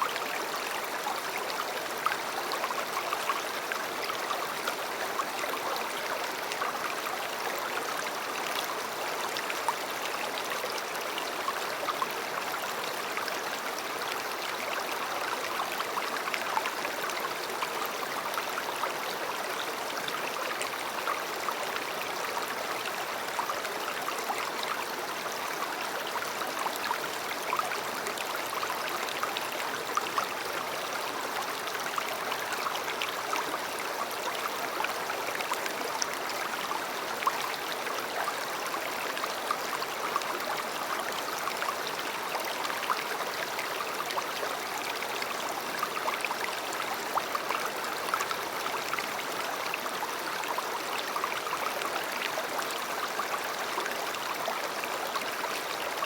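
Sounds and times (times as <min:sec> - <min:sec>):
river water flowing and splashing: 0:00.0 - 0:56.0.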